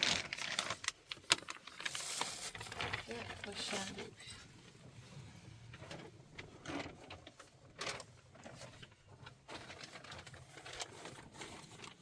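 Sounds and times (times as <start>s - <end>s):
scrapes and rustles of handling: 0.0s - 12.0s.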